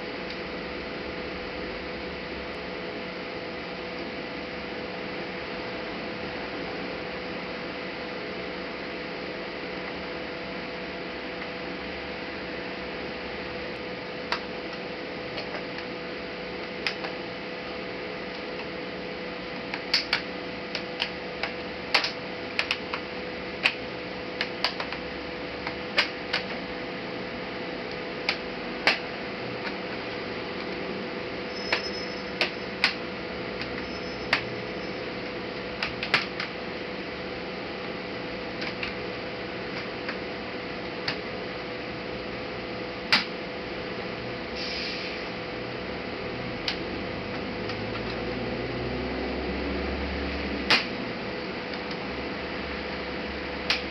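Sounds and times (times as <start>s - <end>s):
steady hiss and hum: 0.0s - 53.9s.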